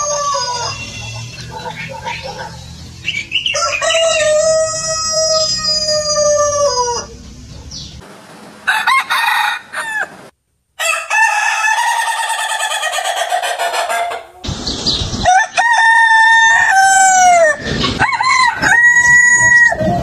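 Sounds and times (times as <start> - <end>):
rooster crowing: 0.0 - 2.7, 3.4 - 7.3, 8.6 - 14.3, 15.2 - 20.0.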